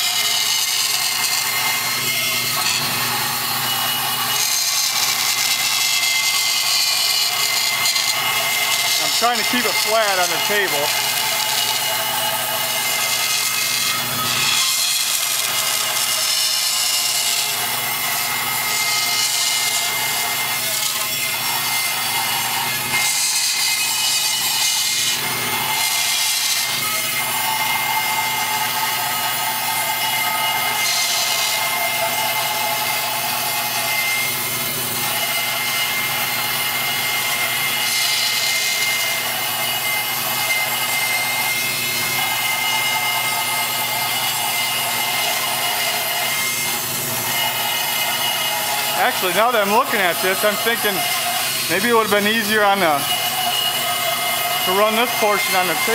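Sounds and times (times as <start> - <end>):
bandsaw cutting wood: 0.0 - 55.9.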